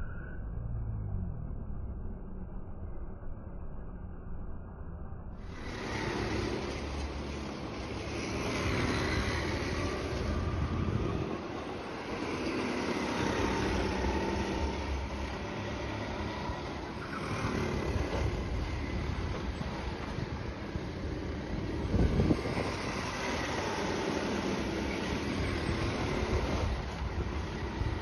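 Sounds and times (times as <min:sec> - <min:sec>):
go-kart engines: 0:05.4 - 0:28.0.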